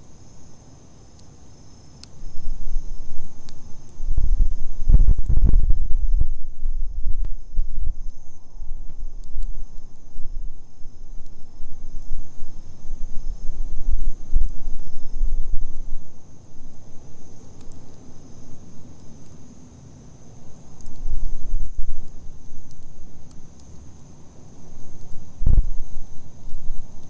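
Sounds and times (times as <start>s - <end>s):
campfire crackling: 0.0s - 27.0s
insects trilling: 0.0s - 27.0s
low gusty fire rumble: 0.0s - 27.0s.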